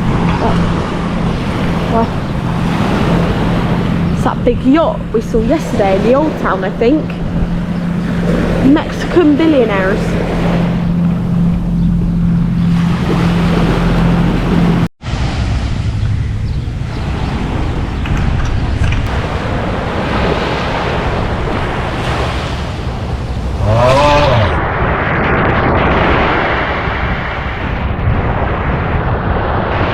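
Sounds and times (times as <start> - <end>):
steady low drone: 0.0 - 26.8
surf: 0.0 - 29.9
wind noise on microphone: 0.0 - 29.9.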